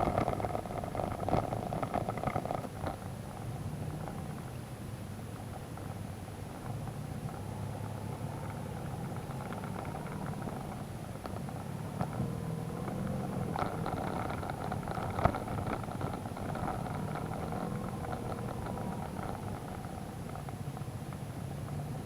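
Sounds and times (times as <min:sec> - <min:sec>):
motorcycle engine running: 0:00.0 - 0:22.0
motorcycle rattling: 0:00.0 - 0:22.0.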